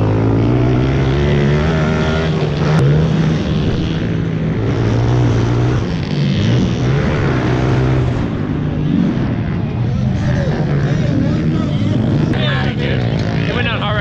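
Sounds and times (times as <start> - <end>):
pit bike engines revving: 0.0 - 14.0.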